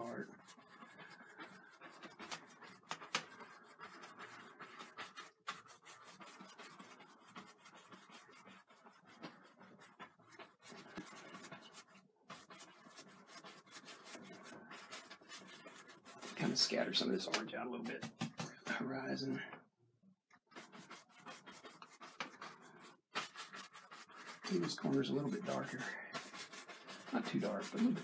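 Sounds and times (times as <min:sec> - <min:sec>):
paintbrush scrubbing on canvas: 0:00.0 - 0:18.5, 0:20.5 - 0:28.0.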